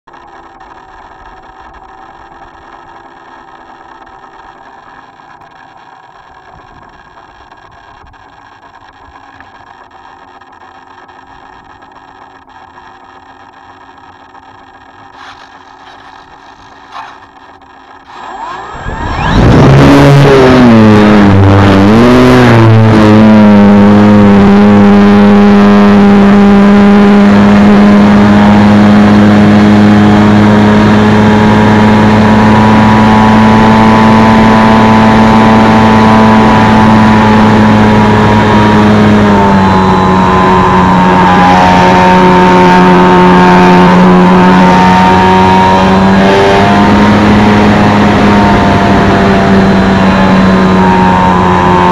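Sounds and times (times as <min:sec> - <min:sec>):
model plane propeller droning: 0:00.1 - 0:51.9.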